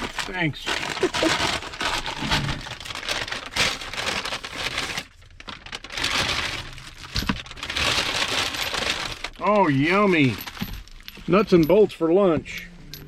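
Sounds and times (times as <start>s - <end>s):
bag crinkling and rustling: 0.0s - 11.9s.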